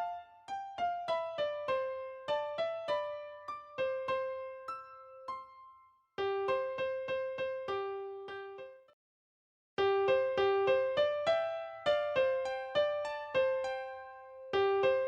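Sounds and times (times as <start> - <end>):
electric piano melody: 0.0 - 8.8, 9.8 - 15.0.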